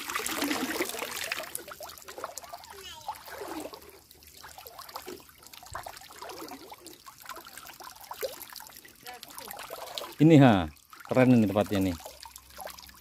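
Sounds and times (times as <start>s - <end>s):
stream trickling and gurgling: 0.0s - 13.0s.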